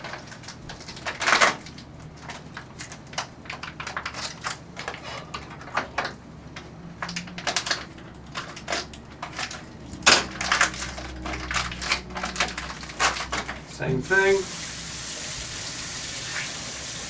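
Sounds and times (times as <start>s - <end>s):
foil packaging crinkling: 0.0s - 14.7s.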